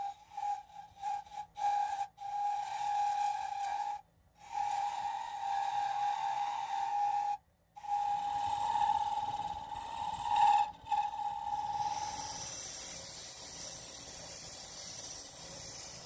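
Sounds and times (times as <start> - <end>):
metal file squealing on lathe: 0.0 - 16.0.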